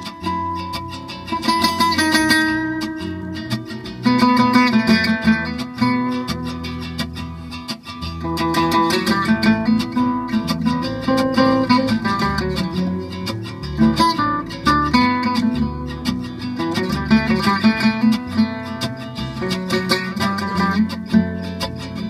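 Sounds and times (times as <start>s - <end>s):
picked guitar melody: 0.0s - 22.0s
strummed acoustic guitar: 0.0s - 22.0s
upright double bass: 0.0s - 22.0s.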